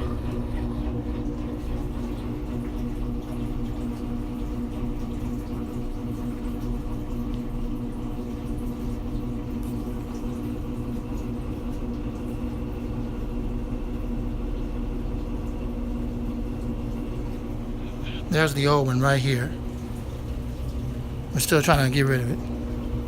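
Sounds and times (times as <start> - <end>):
washing machine humming and rumbling: 0.0 - 23.0.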